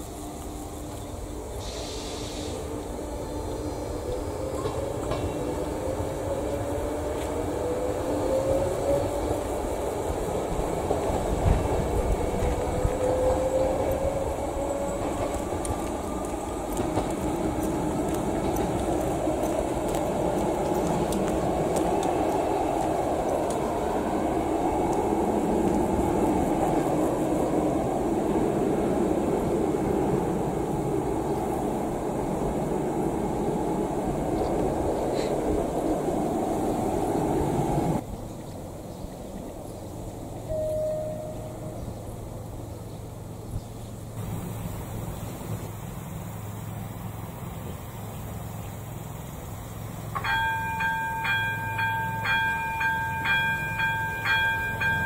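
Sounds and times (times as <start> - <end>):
passenger train rumbling: 0.0 - 55.0
train whine: 0.0 - 55.0.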